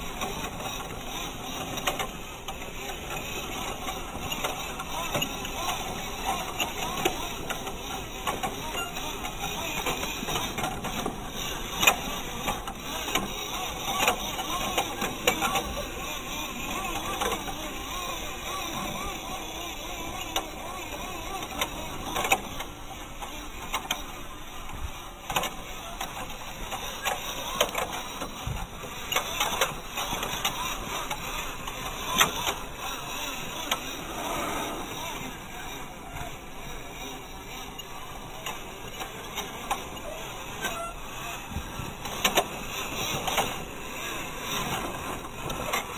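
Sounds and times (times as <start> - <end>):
electric motor and gearbox whirring: 0.0 - 45.9.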